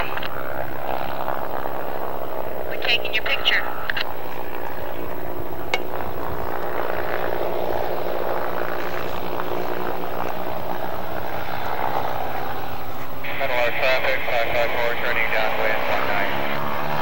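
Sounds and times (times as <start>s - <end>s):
propeller engines droning: 0.0s - 17.0s.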